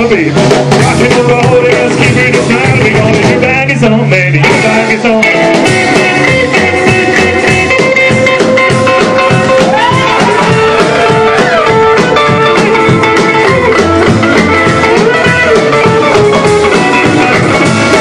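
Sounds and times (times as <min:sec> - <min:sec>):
drum kit: 0:00.0 - 0:18.0
electric guitar: 0:00.0 - 0:18.0
rockabilly band playing: 0:00.0 - 0:18.0.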